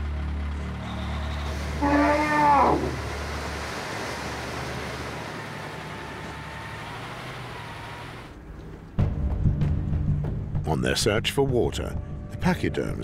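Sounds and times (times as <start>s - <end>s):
truck engines and passing vehicles: 0.0s - 10.4s.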